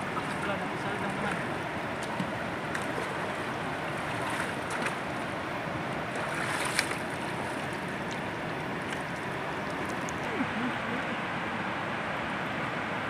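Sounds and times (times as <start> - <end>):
splashes of wading: 0.0 - 11.2
river rushing: 0.0 - 13.0.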